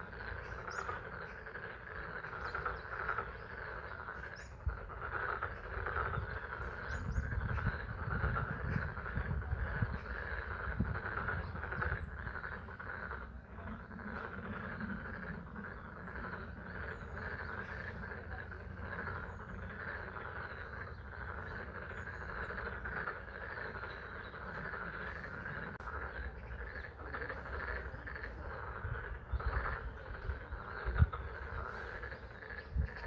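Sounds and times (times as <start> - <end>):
frogs calling: 0.0 - 33.0.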